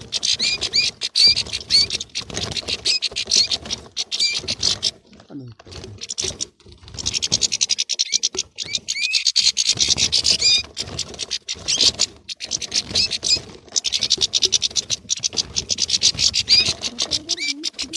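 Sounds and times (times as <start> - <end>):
goldfinches twittering and chirping: 0.0 - 5.0, 5.7 - 17.9.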